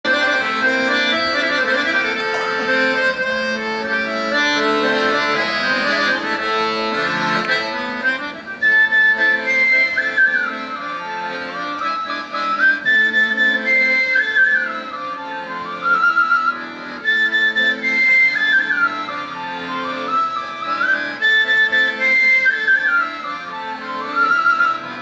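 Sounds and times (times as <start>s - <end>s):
button accordion playing chords: 0.0s - 25.0s
folk pipe melody: 0.0s - 25.0s.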